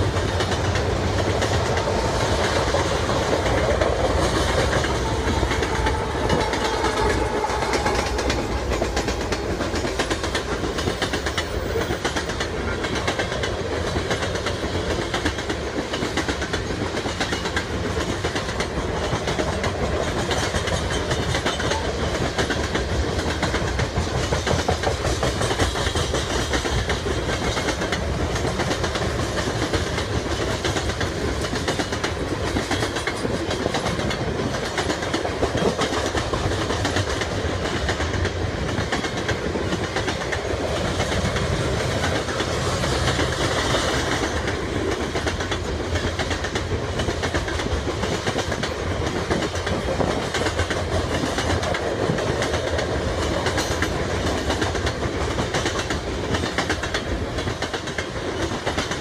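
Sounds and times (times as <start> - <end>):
freight train rumbling past: 0.0 - 59.0
wheels clacking over rail joints: 0.0 - 59.0.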